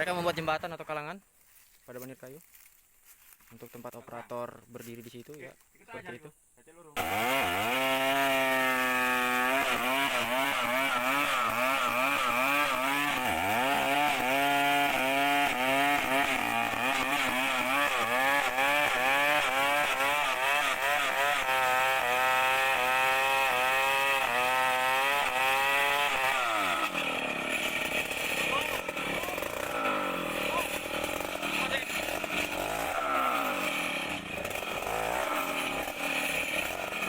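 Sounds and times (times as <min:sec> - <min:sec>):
chainsaw cutting wood: 0:07.0 - 0:37.0.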